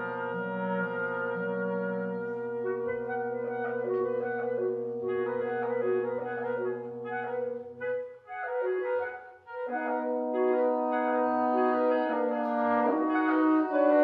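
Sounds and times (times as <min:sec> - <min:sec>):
clarinet phrases: 0:00.0 - 0:14.0
wind instruments holding chords: 0:00.0 - 0:14.0.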